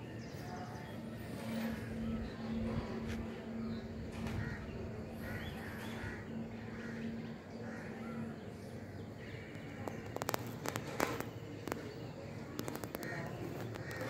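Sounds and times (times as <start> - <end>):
bird calls: 0.0 - 14.0.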